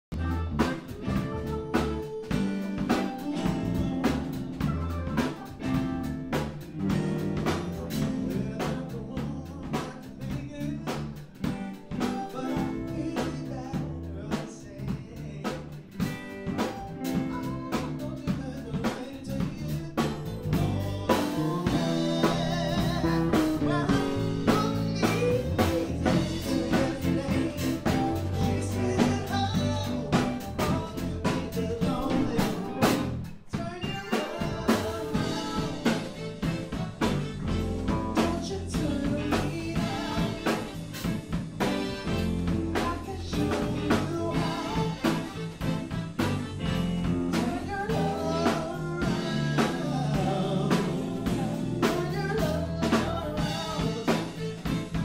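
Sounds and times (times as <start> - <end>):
electric bass guitar: 0.0 - 55.0
drum kit beat: 0.1 - 55.0
person singing: 0.1 - 55.0.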